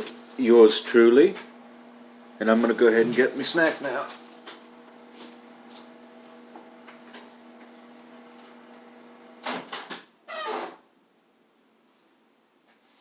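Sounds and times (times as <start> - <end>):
low electrical hum: 0.0 - 12.7.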